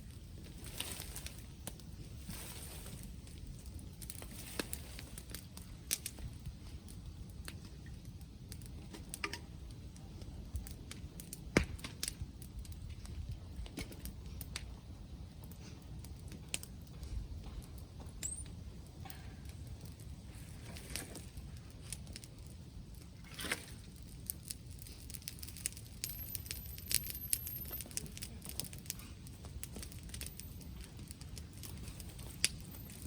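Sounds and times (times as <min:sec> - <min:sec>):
bonfire crackling and popping: 0:00.0 - 0:33.0
low steady rumble: 0:00.0 - 0:33.0.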